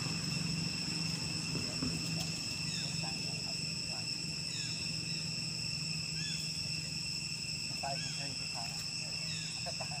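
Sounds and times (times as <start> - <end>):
high-pitched insect chorus: 0.0 - 10.0
low steady hum: 0.0 - 10.0
short insect chirps: 0.0 - 10.0.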